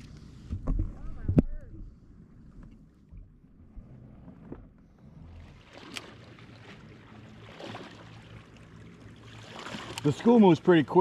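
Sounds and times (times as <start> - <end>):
faint water noise: 0.0 - 11.0.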